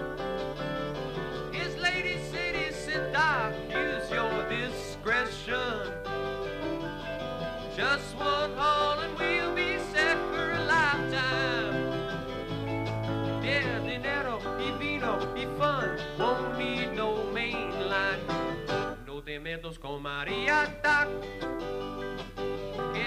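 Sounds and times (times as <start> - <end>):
live country band with singer: 0.0 - 23.0.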